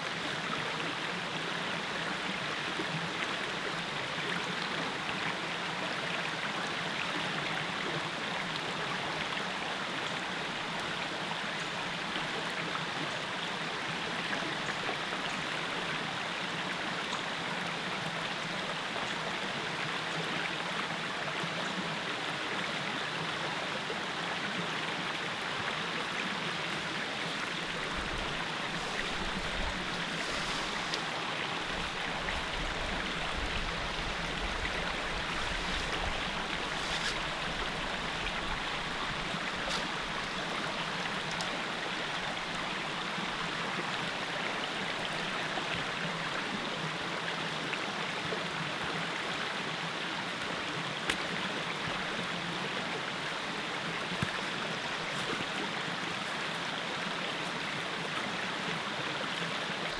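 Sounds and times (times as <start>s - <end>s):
creek running over rocks: 0.0s - 59.9s.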